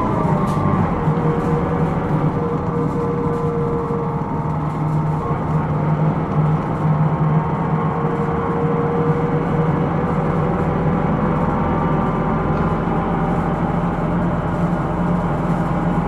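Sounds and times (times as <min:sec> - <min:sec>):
bus diesel engine drone: 0:00.0 - 0:16.0
road noise: 0:00.0 - 0:16.0.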